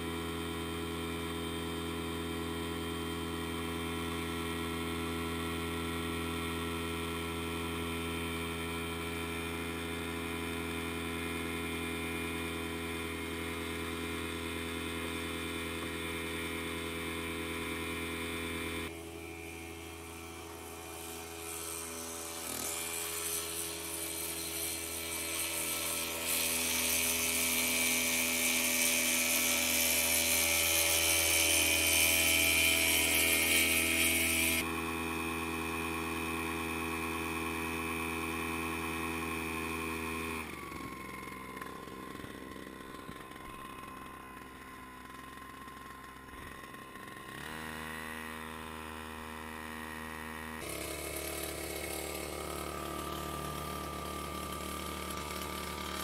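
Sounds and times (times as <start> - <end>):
small outboard motor running: 0.0 - 56.0.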